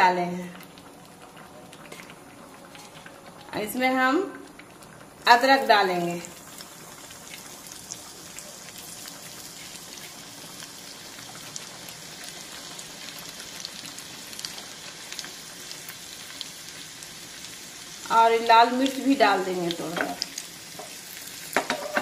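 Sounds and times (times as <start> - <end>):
ginger sizzling in hot ghee: 0.0 - 22.0.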